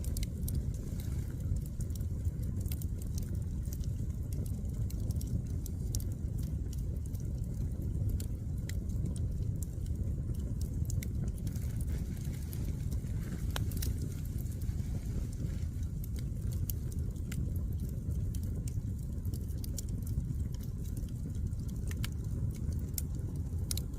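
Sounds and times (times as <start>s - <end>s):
firewood crackling and popping: 0.0s - 23.9s
low rumble: 0.0s - 23.9s.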